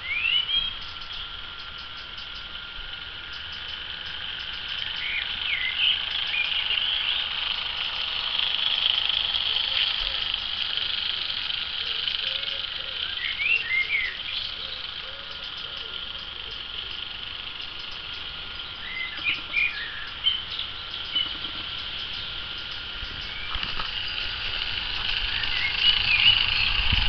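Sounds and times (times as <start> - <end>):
bird chirps: 0.0 - 2.6, 3.2 - 7.8, 11.7 - 27.0
toy train motor whirring: 0.0 - 27.0.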